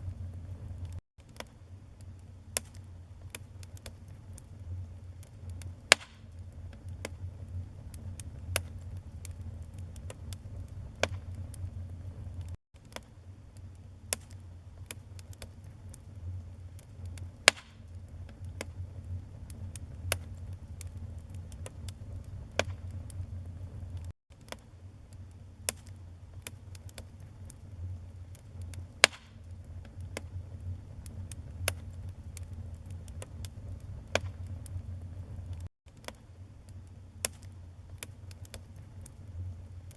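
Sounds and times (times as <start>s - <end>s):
wood fire rumbling: 0.0s - 1.0s, 2.0s - 12.6s, 13.6s - 24.1s, 25.1s - 35.7s, 36.7s - 39.9s
logs crackling and popping: 0.0s - 39.9s.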